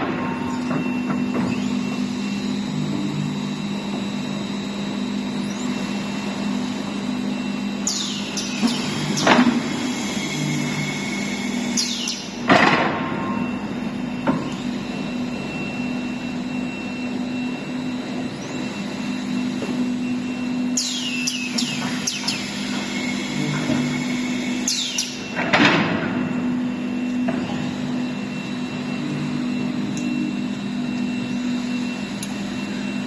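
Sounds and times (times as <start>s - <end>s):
woodworking machinery humming: 0.0s - 33.0s.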